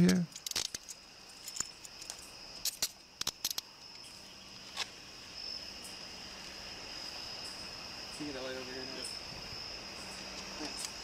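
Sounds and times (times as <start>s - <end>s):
night insects chirping: 0.0s - 11.0s.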